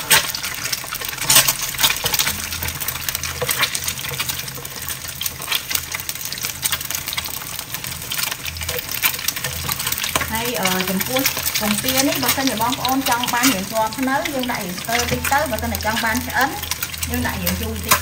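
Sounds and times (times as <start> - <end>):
eggs sizzling and popping in oil: 0.0 - 18.0
spatula scraping a pan: 0.0 - 18.0.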